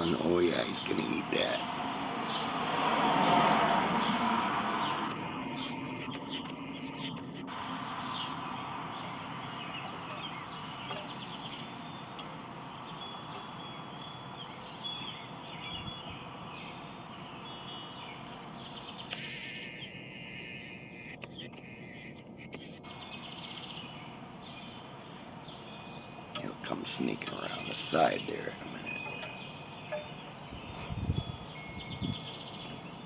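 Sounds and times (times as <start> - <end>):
small birds chirping and singing: 0.0 - 2.5, 4.8 - 33.0
outdoor background noise: 0.0 - 33.0.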